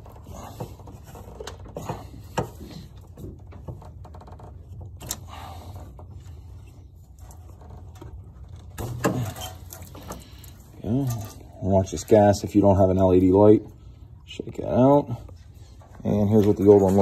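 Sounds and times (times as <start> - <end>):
rubber hoses rubbing and scraping: 0.0 - 12.7, 15.2 - 17.0.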